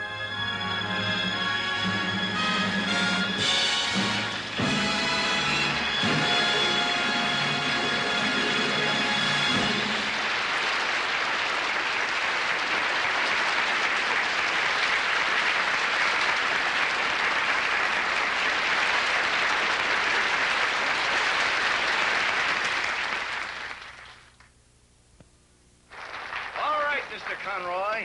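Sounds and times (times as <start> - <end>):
audience applauding: 1.4 - 24.5, 25.9 - 28.0.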